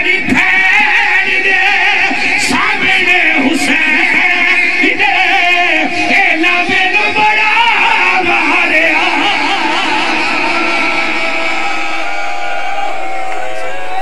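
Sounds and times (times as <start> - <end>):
crowd singing and wailing lament: 0.0 - 14.0.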